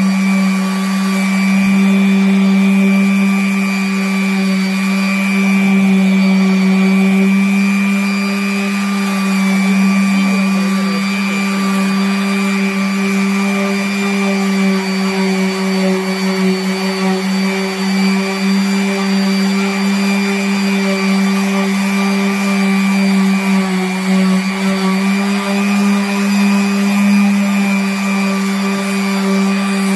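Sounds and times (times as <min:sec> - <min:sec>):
orbital sander humming: 0:00.0 - 0:29.9.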